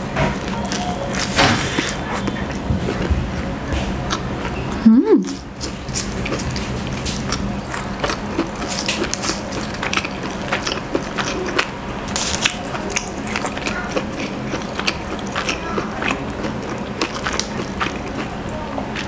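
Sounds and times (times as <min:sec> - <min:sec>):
wet chewing mouth clicks: 0:00.4 - 0:03.1, 0:04.1 - 0:18.3.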